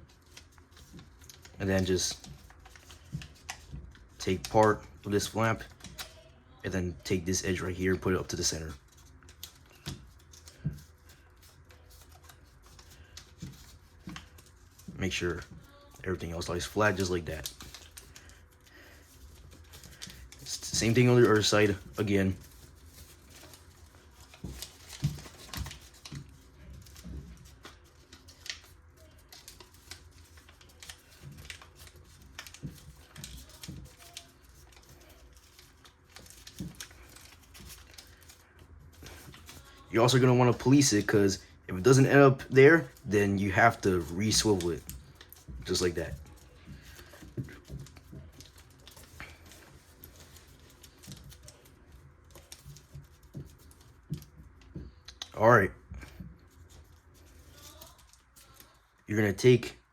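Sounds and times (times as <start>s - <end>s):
paper being folded and creased: 0.0s - 59.0s.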